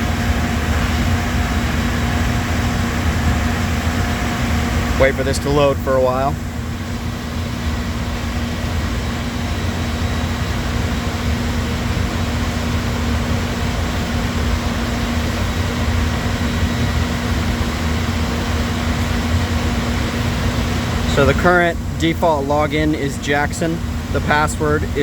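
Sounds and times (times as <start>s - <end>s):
constant droning tone: 0.0s - 25.0s
shop equipment hum and whir: 0.0s - 25.0s.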